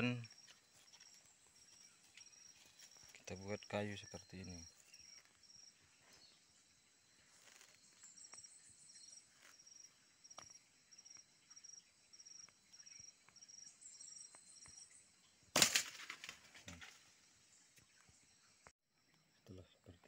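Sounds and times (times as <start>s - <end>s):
insect chirping: 0.0s - 20.0s
insects droning: 0.0s - 20.0s.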